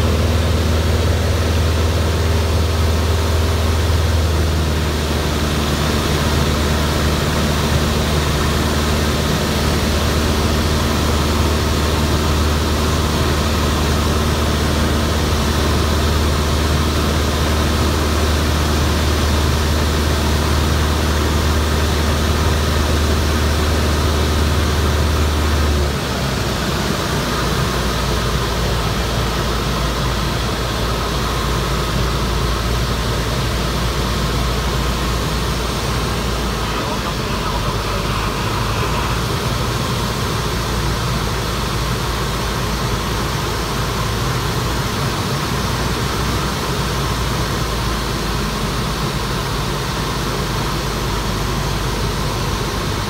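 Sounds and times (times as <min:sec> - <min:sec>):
plane engine and propeller drone: 0:00.0 - 0:53.0.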